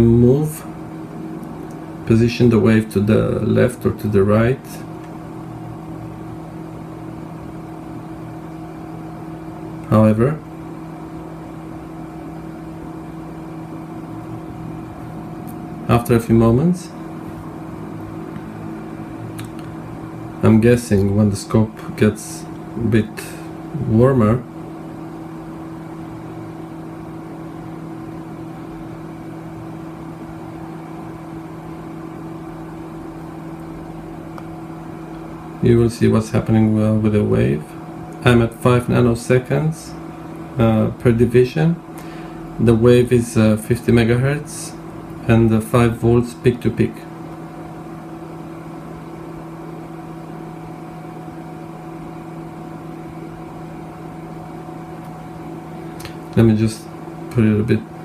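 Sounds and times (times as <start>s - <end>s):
cooling fan whirring hum: 0.0s - 58.0s.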